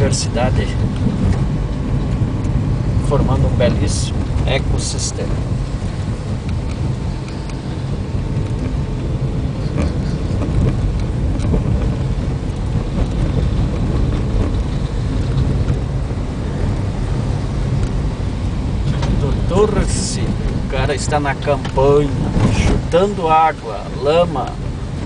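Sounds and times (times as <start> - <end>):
car driving on wet dirt road: 0.0 - 25.0.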